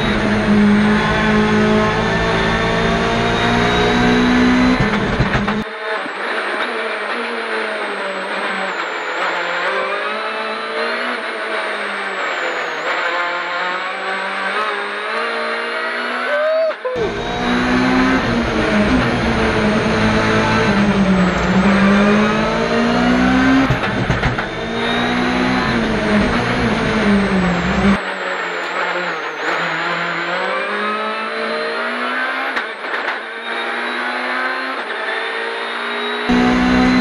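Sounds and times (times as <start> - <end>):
rally car engine revving: 0.0 - 16.4, 17.0 - 37.0.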